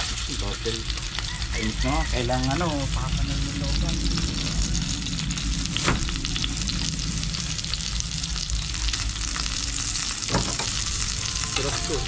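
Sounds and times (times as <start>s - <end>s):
low steady rumble: 0.0s - 12.0s
meat sizzling in hot oil: 0.0s - 12.0s.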